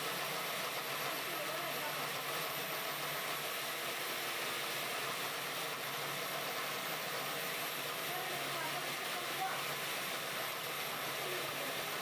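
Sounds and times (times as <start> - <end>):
core drill hissing into concrete: 0.0 - 12.0.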